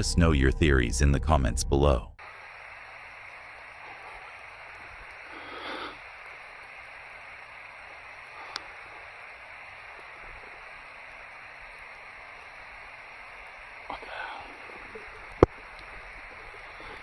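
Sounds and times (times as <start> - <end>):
rain hissing: 2.2 - 17.0.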